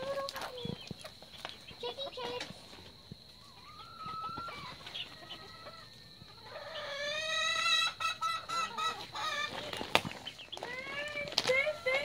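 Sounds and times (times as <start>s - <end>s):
chicken calling: 0.0s - 12.0s.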